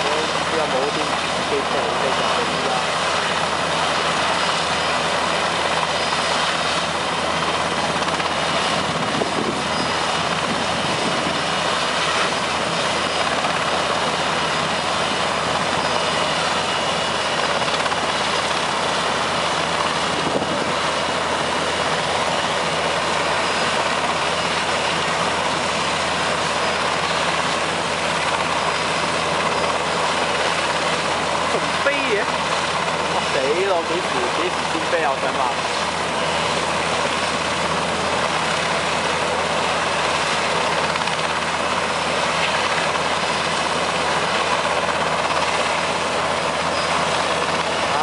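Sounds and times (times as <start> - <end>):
helicopter turbine and rotor: 0.0 - 48.0.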